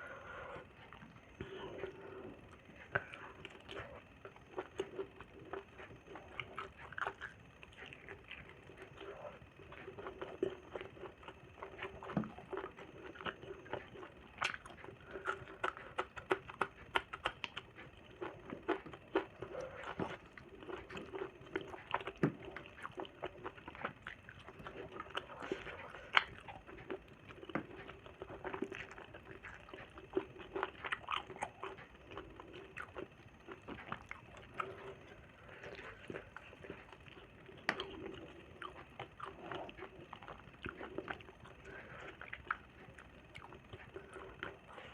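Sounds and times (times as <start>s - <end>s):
faint steady hum: 0.0s - 44.9s
chewing and mouth smacking: 0.3s - 44.9s.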